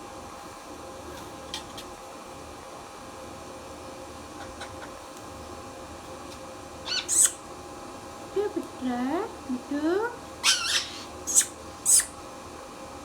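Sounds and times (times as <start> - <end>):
indoor appliance hum: 0.0 - 13.0.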